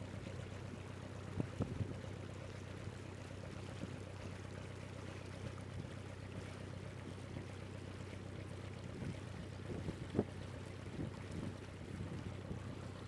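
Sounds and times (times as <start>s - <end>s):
boat engine droning: 0.0s - 13.0s
water splashing against hull: 0.0s - 13.0s.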